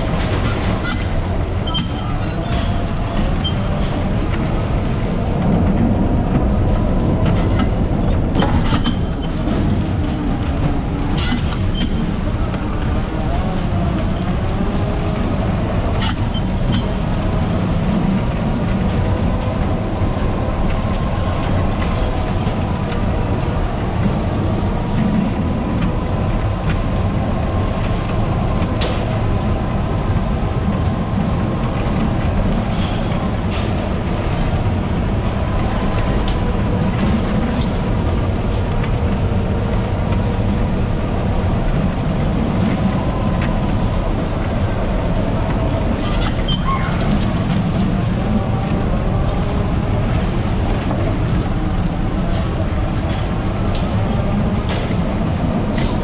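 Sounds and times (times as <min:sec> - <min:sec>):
bumper car rumble: 0:00.0 - 0:56.0.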